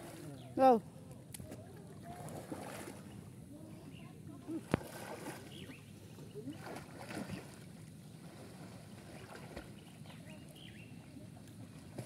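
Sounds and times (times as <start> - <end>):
water lapping and splashing: 0.0 - 12.0.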